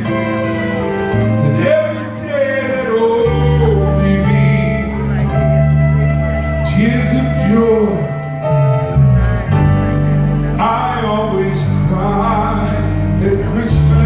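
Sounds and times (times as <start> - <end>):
held instrumental chords: 0.0 - 14.0
person singing: 0.0 - 14.0.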